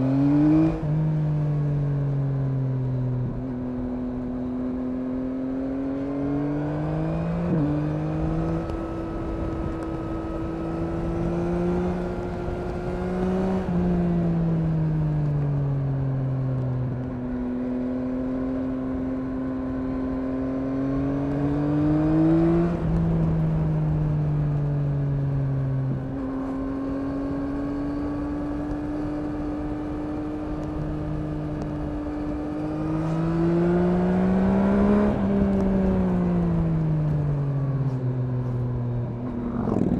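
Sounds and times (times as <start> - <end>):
motorcycle engine running: 7.4 - 39.9.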